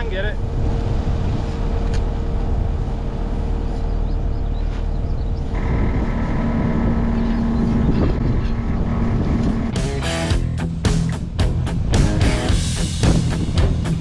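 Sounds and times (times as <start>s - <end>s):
high steady whine: 0.0s - 14.0s
skid steer engine running: 1.8s - 14.0s.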